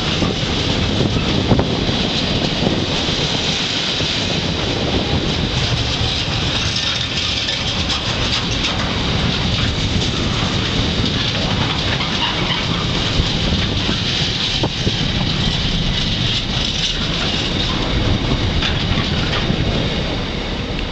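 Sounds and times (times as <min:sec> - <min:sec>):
train wheels rumbling on rail: 0:00.0 - 0:20.9
wheels clicking over rail joints: 0:00.0 - 0:20.9.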